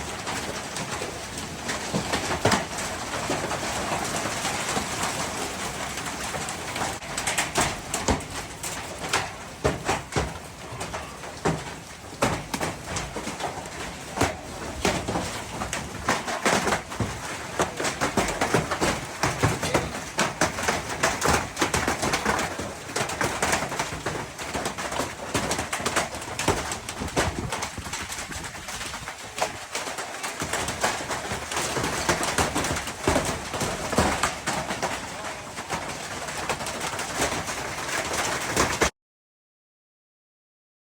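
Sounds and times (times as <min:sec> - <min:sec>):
hail and rain on hard surfaces: 0:00.0 - 0:38.9.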